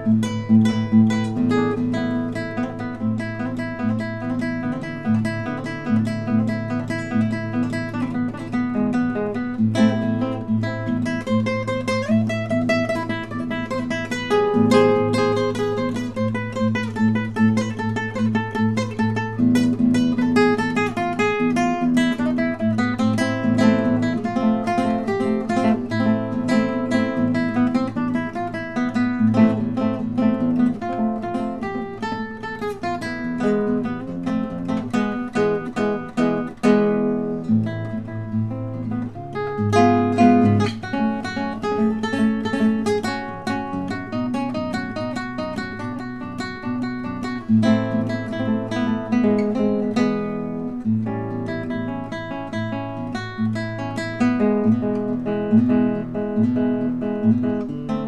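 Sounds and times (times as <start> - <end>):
solo classical guitar: 0.0 - 58.0.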